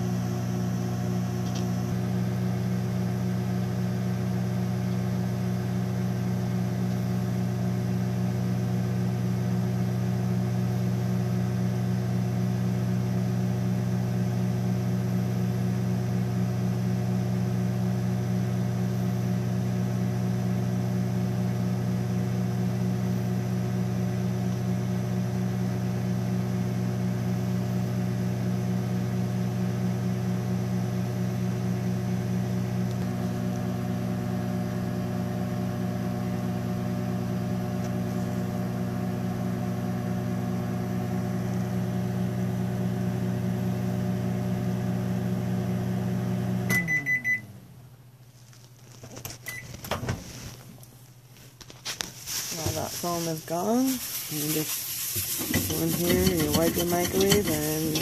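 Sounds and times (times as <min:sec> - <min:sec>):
microwave oven humming: 0:00.0 - 0:48.3, 0:49.0 - 0:51.5, 0:52.6 - 0:58.0.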